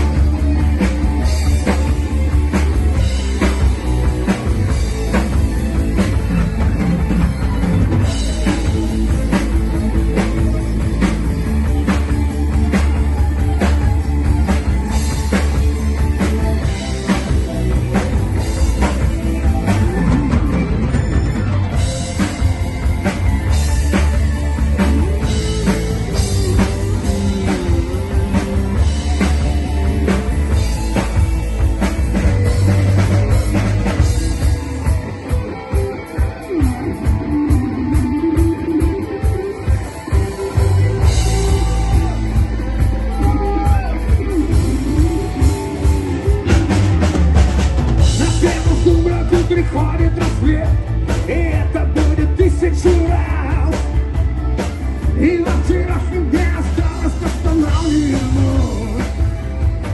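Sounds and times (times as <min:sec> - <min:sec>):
bass guitar: 0:00.0 - 0:59.9
drum kit beat: 0:00.0 - 0:59.9
electric guitar: 0:00.0 - 0:59.9.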